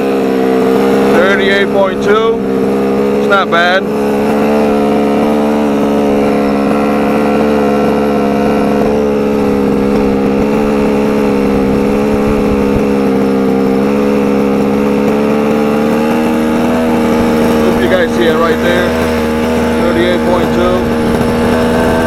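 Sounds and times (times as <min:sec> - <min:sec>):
rc truck engine buzzing: 0:00.0 - 0:22.0.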